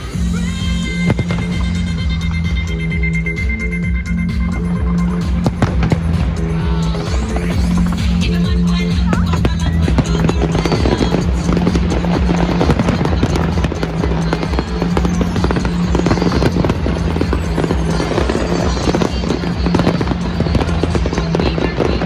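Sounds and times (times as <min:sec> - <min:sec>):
fireworks bangs and crackles: 0:00.0 - 0:02.8, 0:04.3 - 0:22.0
loud music with bass: 0:00.0 - 0:22.0.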